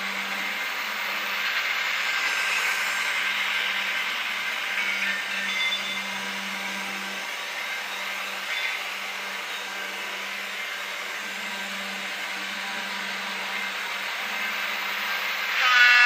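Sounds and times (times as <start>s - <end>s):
model train motor hum: 0.0s - 16.0s.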